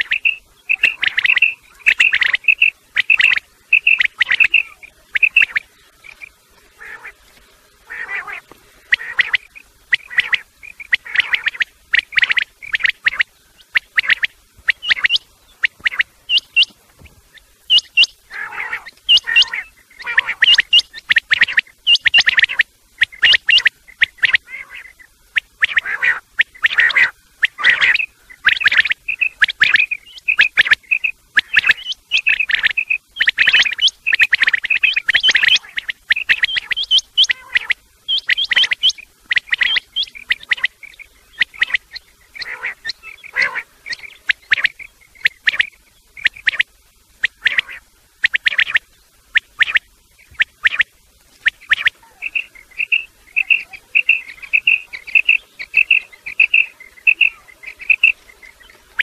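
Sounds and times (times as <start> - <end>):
quail calls chirping: 0.0 - 7.2, 7.8 - 59.0.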